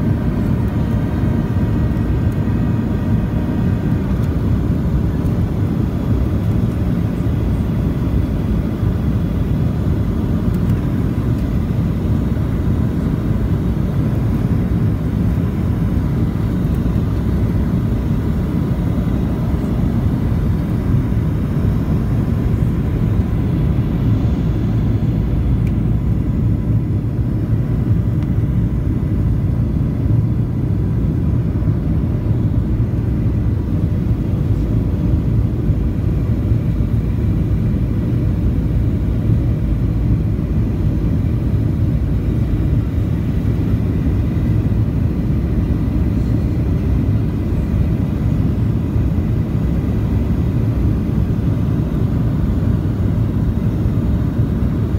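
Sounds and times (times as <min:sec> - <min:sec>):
airflow over wing: 0:00.0 - 0:54.9
jet engines rumbling: 0:00.0 - 0:54.9.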